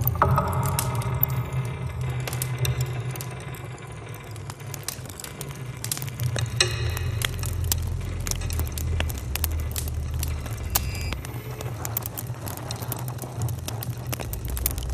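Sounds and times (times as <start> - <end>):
deep rumble: 0.0 - 14.9
low droning hum: 0.0 - 14.9.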